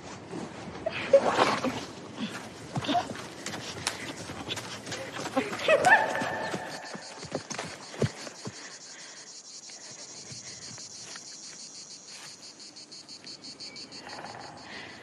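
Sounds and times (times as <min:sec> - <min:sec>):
insects chirring: 0:02.7 - 0:15.0.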